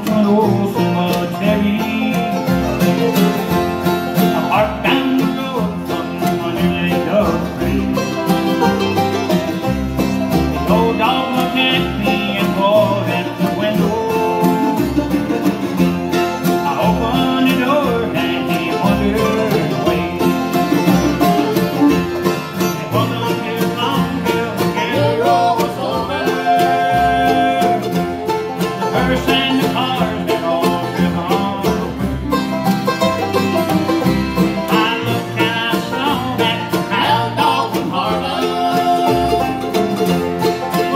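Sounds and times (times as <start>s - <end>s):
banjo picking: 0.0s - 40.9s
strummed acoustic guitars: 0.0s - 40.9s
upright bass: 0.0s - 40.9s.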